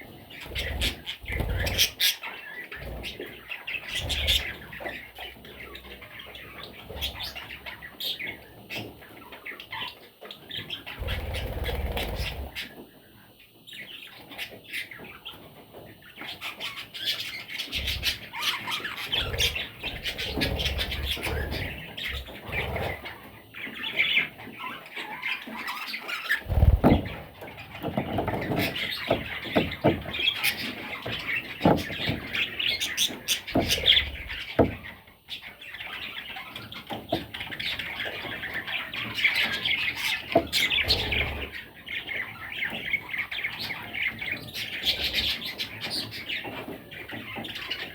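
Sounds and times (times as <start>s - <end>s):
budgerigars chattering and chirping: 0.0s - 47.9s.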